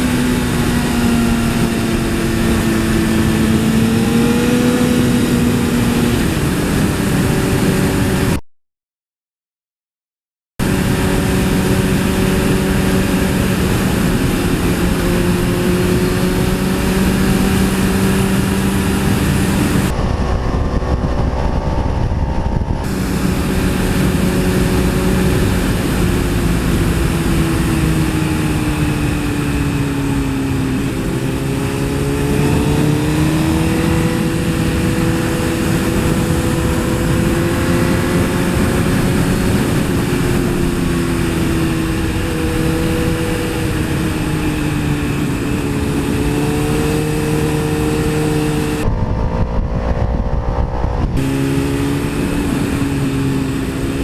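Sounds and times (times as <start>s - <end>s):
motorcycle engine running: 0.0s - 8.4s, 10.6s - 54.0s
wind noise on microphone: 0.0s - 8.4s, 10.6s - 54.0s.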